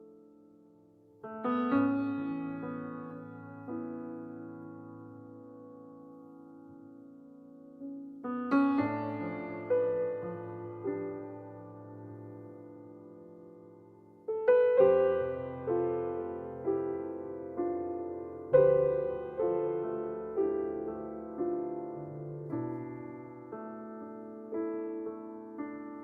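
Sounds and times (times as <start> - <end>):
gentle solo piano music: 0.0 - 26.0.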